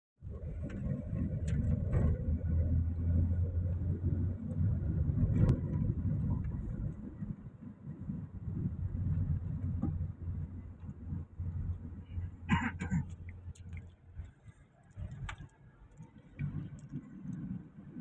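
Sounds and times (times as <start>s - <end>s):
car engine and road rumble: 0.2s - 18.0s
sharp clicks and rattles: 0.3s - 18.0s.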